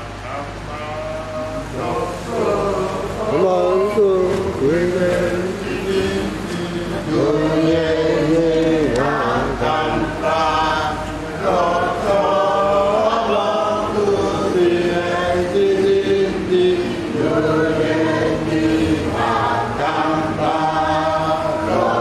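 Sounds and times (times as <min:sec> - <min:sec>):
group singing a hymn: 0:00.0 - 0:22.0.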